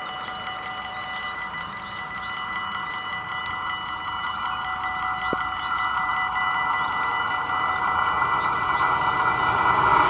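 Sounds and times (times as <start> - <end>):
approaching railcar rushing: 0.0 - 10.0
level crossing warning bells: 0.0 - 10.0.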